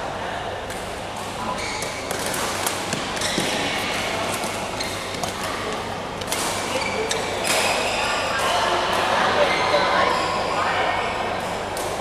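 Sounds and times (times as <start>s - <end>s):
indoor hall noise: 0.0s - 12.0s.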